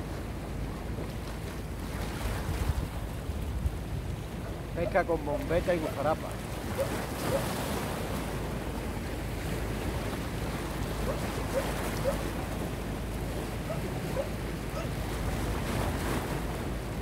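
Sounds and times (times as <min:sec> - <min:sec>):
waves washing against rocks: 0:00.0 - 0:17.0
wind buffeting microphone: 0:00.0 - 0:17.0.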